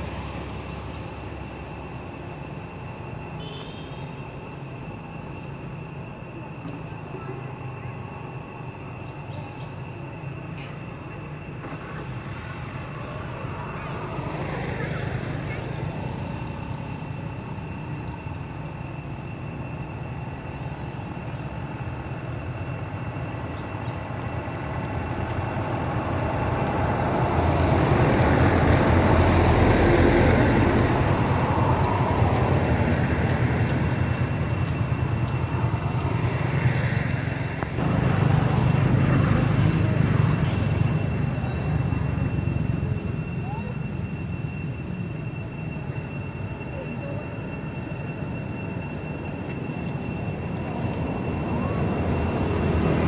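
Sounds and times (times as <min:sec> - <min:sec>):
bus driving past: 0:00.0 - 0:53.0.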